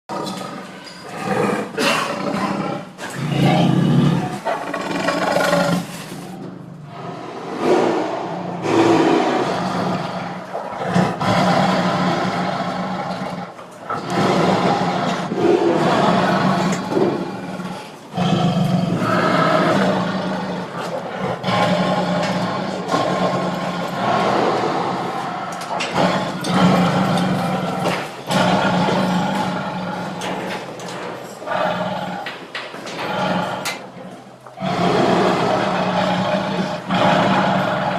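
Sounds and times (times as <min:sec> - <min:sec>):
tiger roaring: 0:00.1 - 0:37.9.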